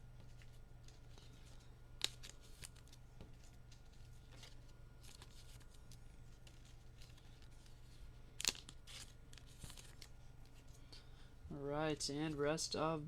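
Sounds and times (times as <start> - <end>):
rustling of cards and wrapper: 0.2 - 10.9.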